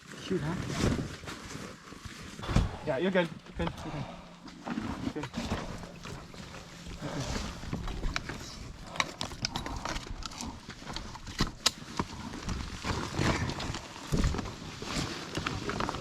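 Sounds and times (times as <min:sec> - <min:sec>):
rustling: 0:02.4 - 0:16.0.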